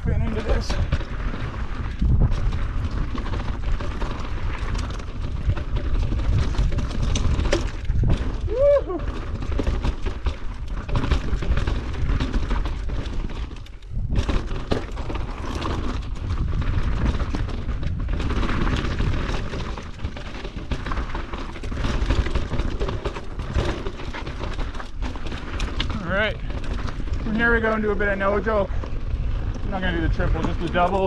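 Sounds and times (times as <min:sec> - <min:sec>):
bike clattering: 0:00.0 - 0:31.0
bike tyres crunching over stones: 0:00.0 - 0:31.0
wind buffeting microphone: 0:00.0 - 0:31.0.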